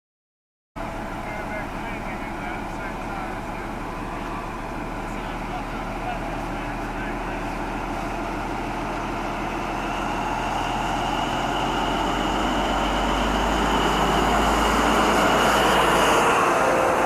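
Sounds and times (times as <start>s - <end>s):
high-speed train running: 0.8s - 17.0s.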